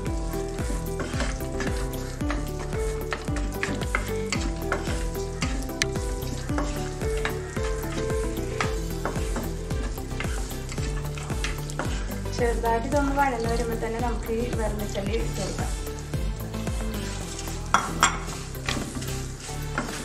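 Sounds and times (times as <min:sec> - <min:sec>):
nuts sizzling in hot fat: 0:00.0 - 0:20.0
soft background music: 0:00.0 - 0:20.0
spatula scraping pan: 0:00.0 - 0:20.0.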